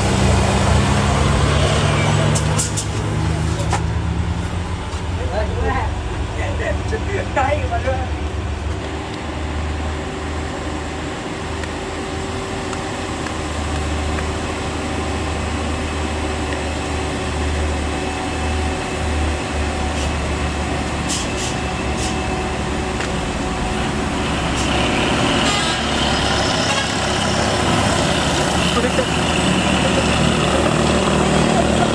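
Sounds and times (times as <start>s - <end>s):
diesel truck engine droning: 0.0s - 31.9s.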